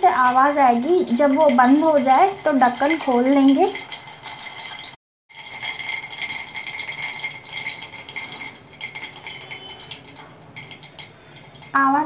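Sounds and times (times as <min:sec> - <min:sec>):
seeds pinging against steel lid: 0:00.0 - 0:12.0
seeds popping in hot oil: 0:00.0 - 0:12.0.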